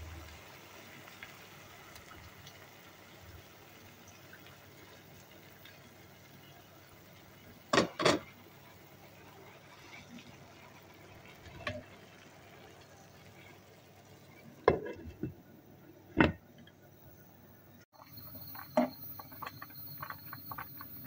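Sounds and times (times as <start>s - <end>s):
rice bubbling in water: 0.0s - 16.4s, 17.9s - 21.0s.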